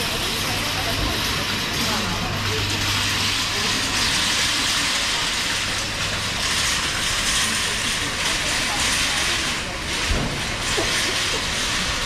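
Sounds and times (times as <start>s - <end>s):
rushing street noise: 0.0s - 12.0s.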